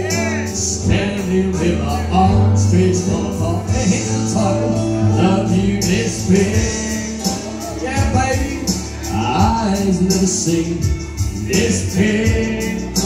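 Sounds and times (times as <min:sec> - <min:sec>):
country love song over pa system: 0:00.0 - 0:13.0
man singing: 0:00.0 - 0:13.0.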